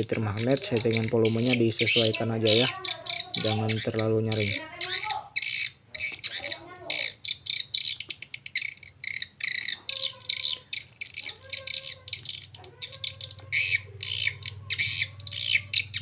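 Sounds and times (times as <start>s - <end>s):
recorded bird chirps and twitters: 0.0s - 16.0s.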